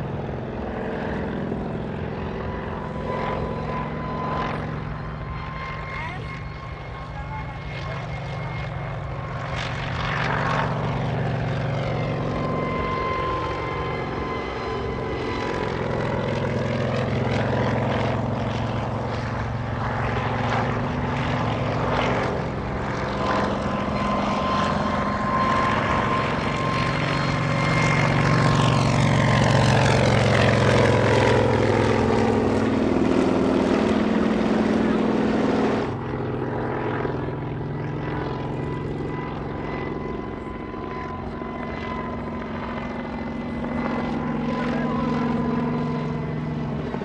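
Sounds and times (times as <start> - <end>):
helicopter flying low: 0.0 - 47.0.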